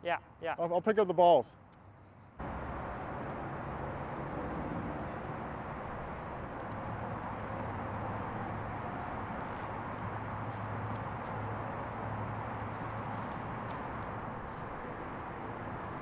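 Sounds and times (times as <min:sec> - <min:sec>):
constant low hum: 0:01.7 - 0:16.0.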